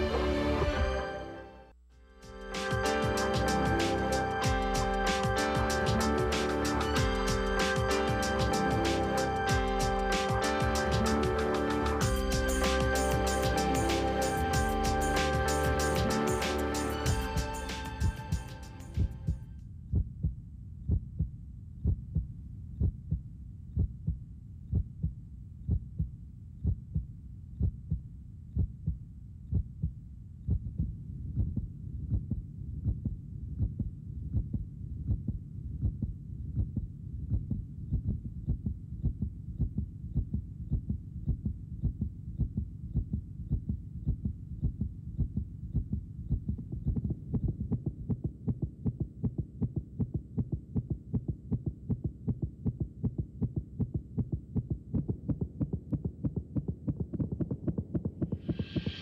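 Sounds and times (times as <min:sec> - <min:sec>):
heartbeat thumps: 0:02.7 - 0:16.4, 0:17.0 - 0:59.0.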